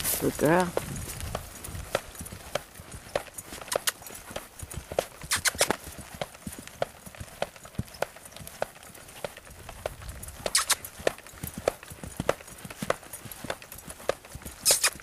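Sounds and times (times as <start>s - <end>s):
horse hooves trotting on dirt: 0.0s - 15.0s.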